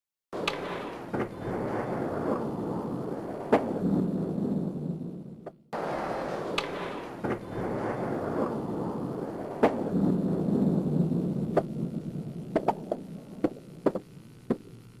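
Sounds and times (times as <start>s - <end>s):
skateboard wheels rolling: 0.4s - 3.8s, 5.4s - 10.2s, 11.0s - 14.8s.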